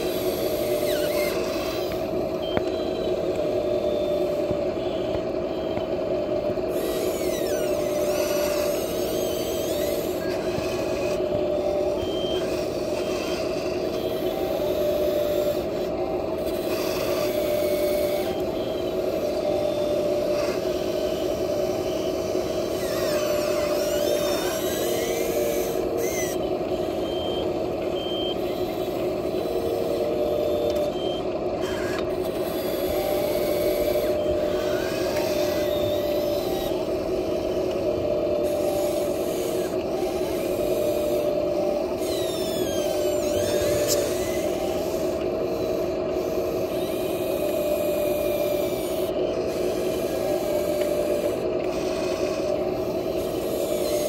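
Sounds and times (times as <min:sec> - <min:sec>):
toy electric motors whining: 0:00.0 - 0:54.0.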